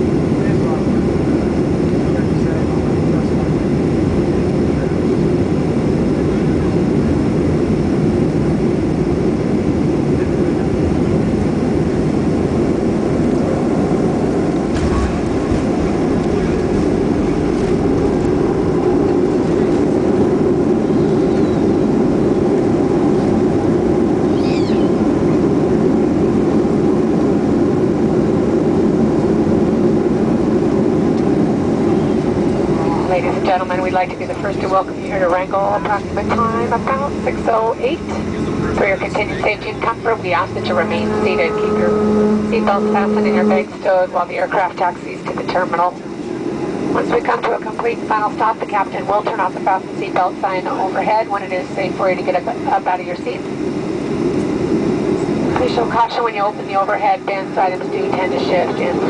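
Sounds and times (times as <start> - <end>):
jet engine and airflow roar: 0.0 - 59.0.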